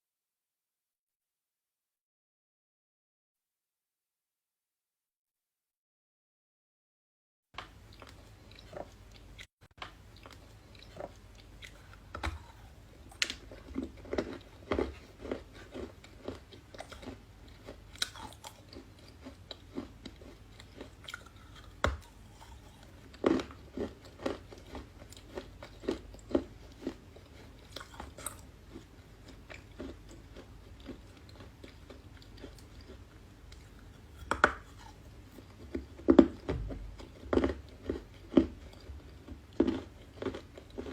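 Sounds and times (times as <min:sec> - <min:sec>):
crunching and chewing clay: 0:07.6 - 0:40.9.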